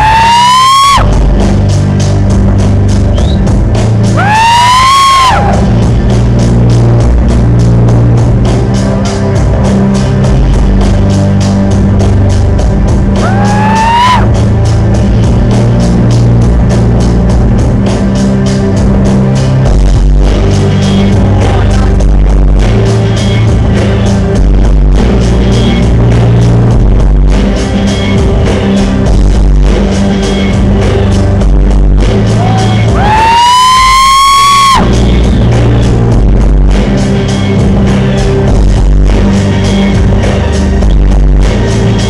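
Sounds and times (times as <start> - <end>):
bass-heavy music with fast beat: 0.0 - 42.0.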